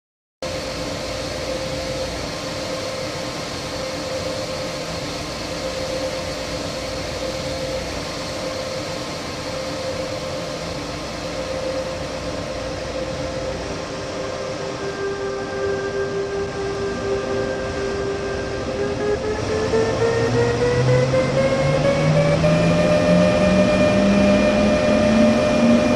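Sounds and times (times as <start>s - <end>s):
electric locomotive hum: 0.4s - 25.9s
lower whine: 0.4s - 25.9s
pitched whine: 0.4s - 25.9s.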